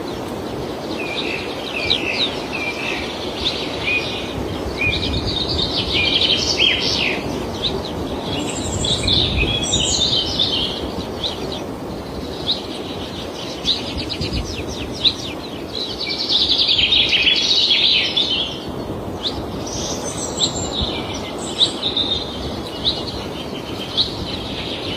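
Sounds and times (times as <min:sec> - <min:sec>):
low hum of open field: 0:00.0 - 0:24.9
small birds chirping: 0:00.0 - 0:24.9.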